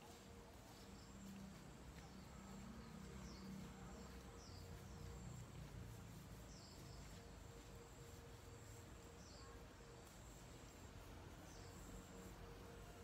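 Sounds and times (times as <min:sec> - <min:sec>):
bird chirping: 0:00.0 - 0:10.8.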